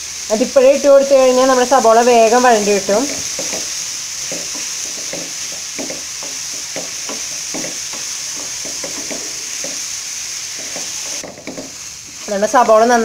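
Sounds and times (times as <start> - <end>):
onions sizzling in a pan: 0.0 - 13.0
spatula stirring in a pan: 2.0 - 13.0.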